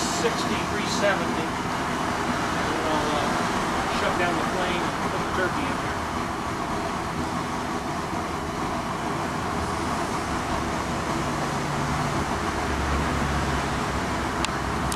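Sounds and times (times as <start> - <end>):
gas burner rushing: 0.0 - 14.9.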